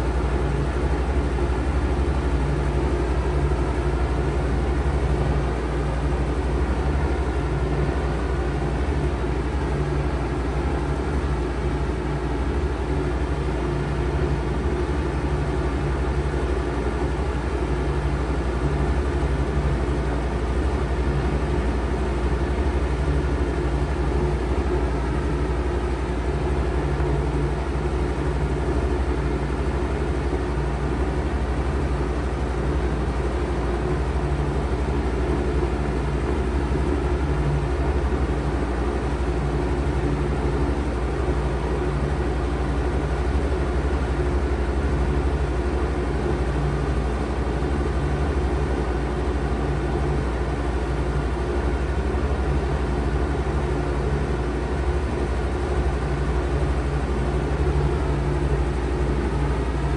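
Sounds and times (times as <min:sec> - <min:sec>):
heat pump humming: 0:00.0 - 0:59.9.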